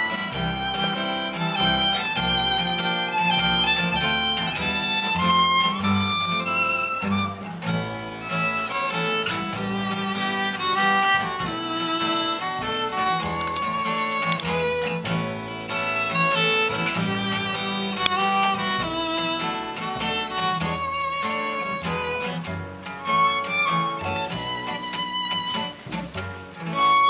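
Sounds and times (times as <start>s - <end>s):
street band playing: 0.0s - 27.0s.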